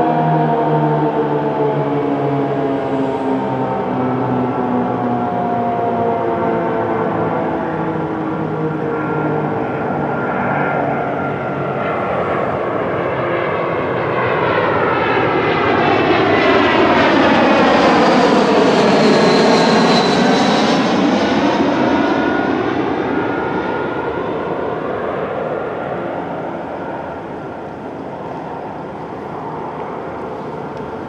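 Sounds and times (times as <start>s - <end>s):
jet airliner passing overhead: 0.0s - 31.0s.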